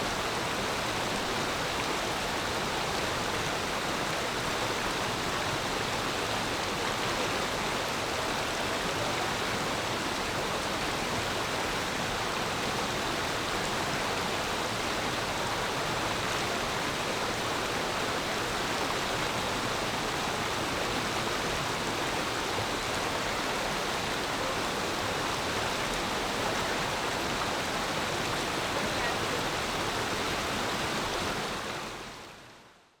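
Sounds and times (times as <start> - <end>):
stream flowing over stones: 0.0 - 32.4.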